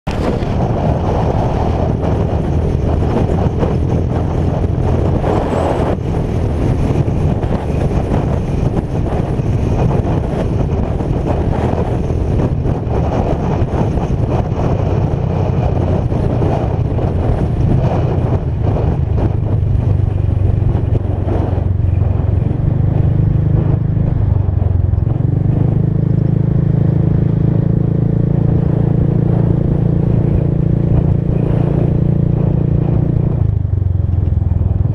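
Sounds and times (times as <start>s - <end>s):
motorcycle engine drone: 0.0s - 34.9s
wind rush on microphone: 0.0s - 34.9s.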